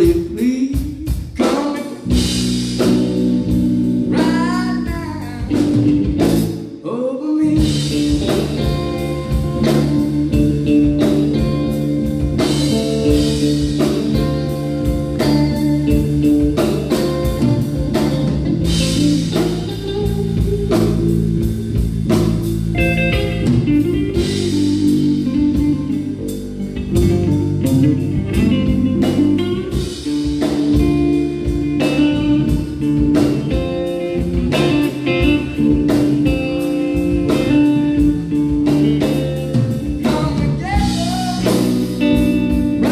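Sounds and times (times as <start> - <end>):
drum kit: 0.0 - 6.8, 7.4 - 42.9
electric guitar: 0.0 - 42.9.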